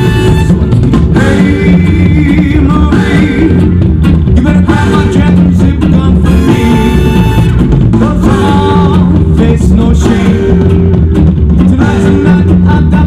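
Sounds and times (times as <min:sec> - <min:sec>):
loud music with singing: 0:00.0 - 0:13.0.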